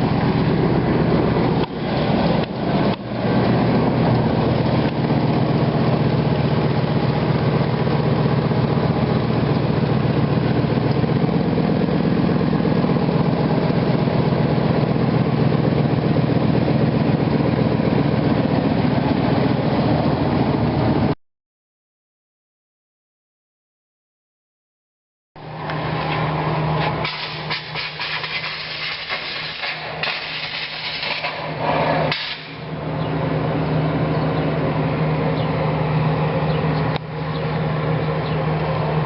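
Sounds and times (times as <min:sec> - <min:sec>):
truck engine idling: 0:00.0 - 0:21.2, 0:25.4 - 0:39.0.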